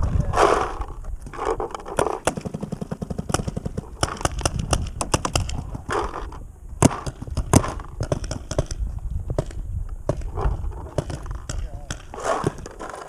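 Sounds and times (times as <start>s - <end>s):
paintball markers firing: 1.5s - 13.0s.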